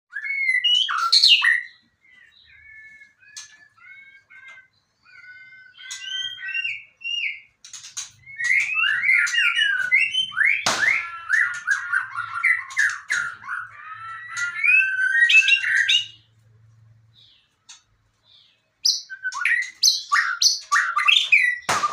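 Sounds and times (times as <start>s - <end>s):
bird singing whistled phrases: 0.1s - 4.5s, 5.1s - 7.5s, 8.2s - 16.2s, 18.8s - 21.9s.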